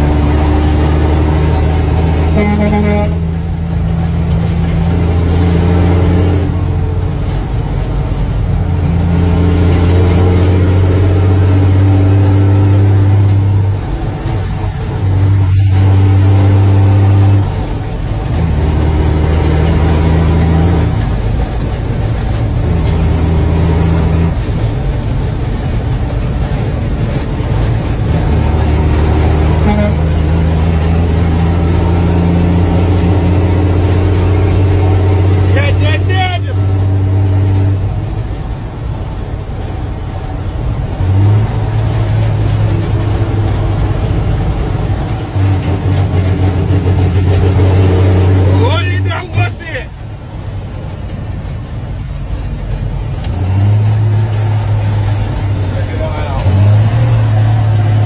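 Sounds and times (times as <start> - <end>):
truck diesel engine shifting gears: 0.0 - 58.0.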